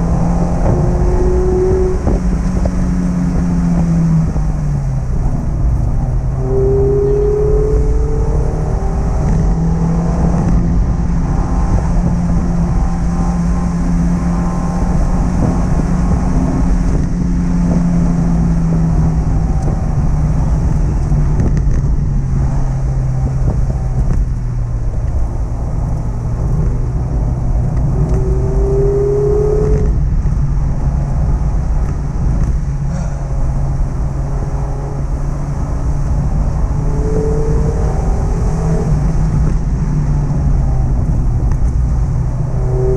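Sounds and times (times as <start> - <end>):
car engine while driving: 0.0 - 42.9
road noise: 0.0 - 42.9.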